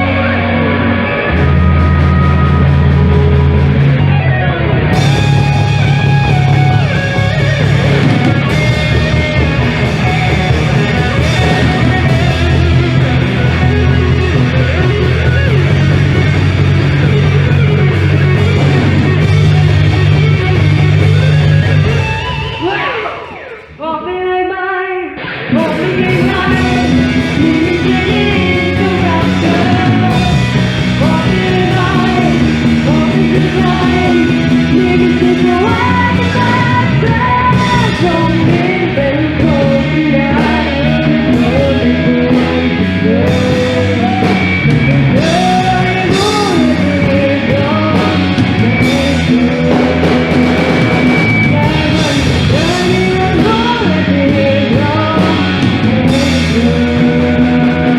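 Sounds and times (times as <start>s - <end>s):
rock band playing: 0.0s - 24.0s, 25.1s - 57.9s
lead singer singing: 0.0s - 57.9s.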